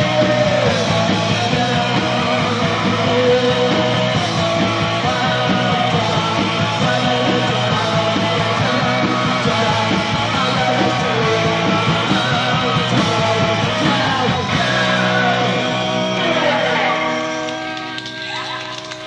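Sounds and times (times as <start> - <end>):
punk rock band playing live: 0.0 - 19.0.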